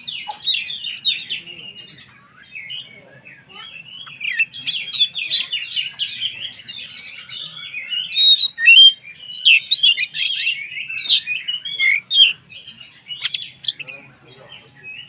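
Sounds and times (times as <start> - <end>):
bird singing whistled notes: 0.0 - 15.0.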